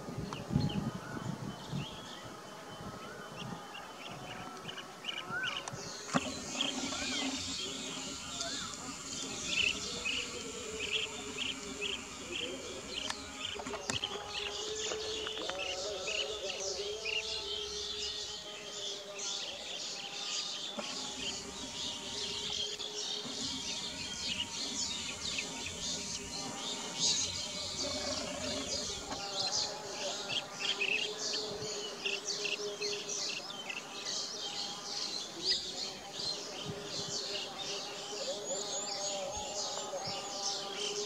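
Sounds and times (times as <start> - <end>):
small birds chirping: 0.3 - 41.0.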